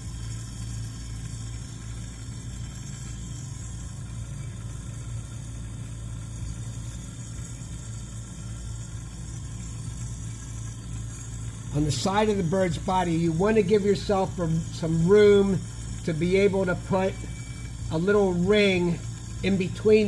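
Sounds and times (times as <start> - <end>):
low machine hum: 0.0 - 20.0
torch burning with hiss: 0.0 - 20.0.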